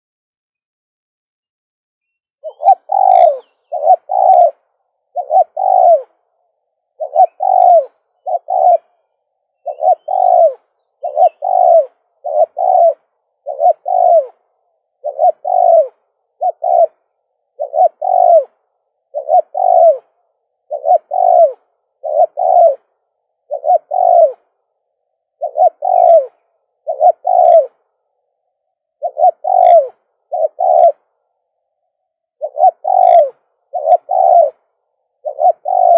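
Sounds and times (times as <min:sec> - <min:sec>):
dove cooing: 0:02.4 - 0:35.9.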